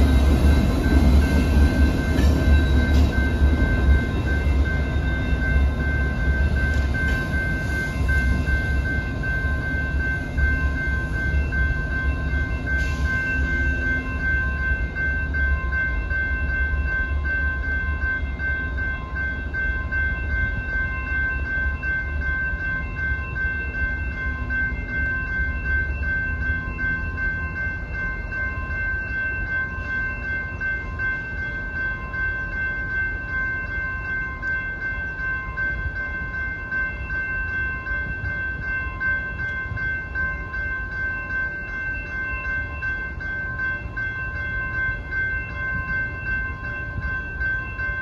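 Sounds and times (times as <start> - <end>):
low rumble of passing train: 0.0 - 48.0
railroad crossing bells ringing: 0.0 - 48.0.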